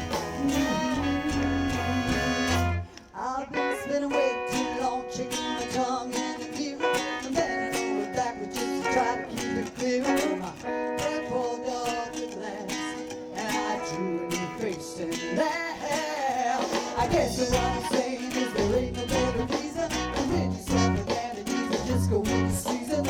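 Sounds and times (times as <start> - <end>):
live band playing: 0.0 - 23.0
strummed guitar: 0.0 - 23.0.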